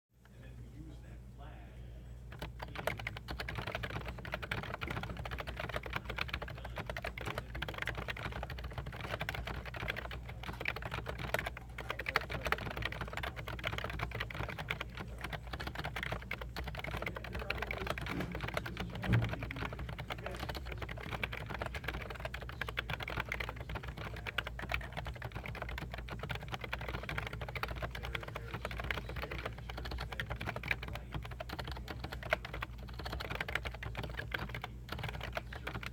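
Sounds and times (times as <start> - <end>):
fast keyboard typing: 2.3 - 35.9.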